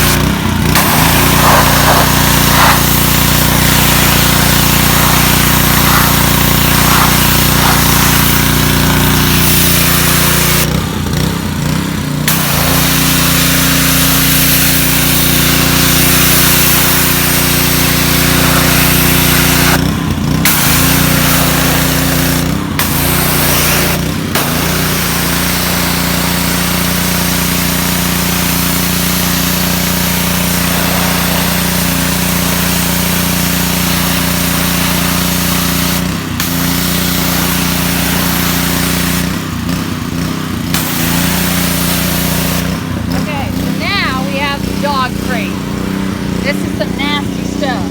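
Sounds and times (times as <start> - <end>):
small engine running: 0.0 - 47.9
high-pressure water spray hiss: 0.8 - 10.7, 12.3 - 19.8, 20.5 - 39.5, 40.8 - 42.8.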